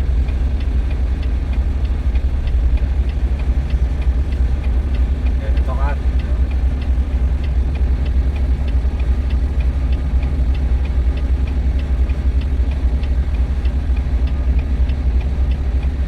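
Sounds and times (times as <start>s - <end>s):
diesel truck engine rumbling: 0.0s - 16.0s
faint regular ticking: 0.0s - 16.0s.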